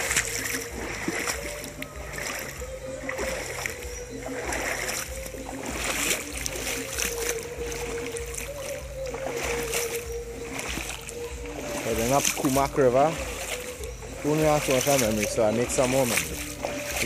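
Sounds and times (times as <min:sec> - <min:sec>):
feet splashing in water: 0:00.0 - 0:17.0
river water rushing: 0:00.0 - 0:17.0.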